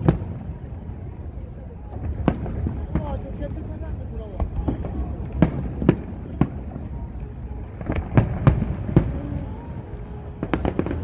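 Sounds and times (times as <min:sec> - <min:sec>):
fireworks bangs: 0:00.0 - 0:01.0, 0:01.9 - 0:11.0.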